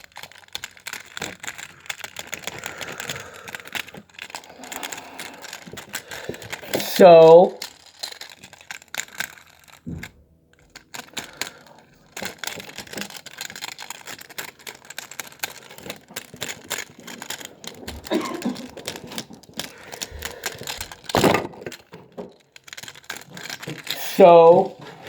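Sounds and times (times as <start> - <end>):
plastic packaging rustling: 0.0 - 6.9, 7.5 - 25.0
toy truck clicking and rattling: 0.0 - 25.0.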